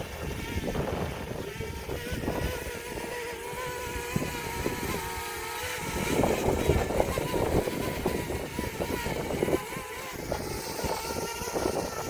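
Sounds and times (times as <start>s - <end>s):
drone propellers whining: 0.0s - 12.0s
wind buffeting microphone: 0.0s - 12.0s.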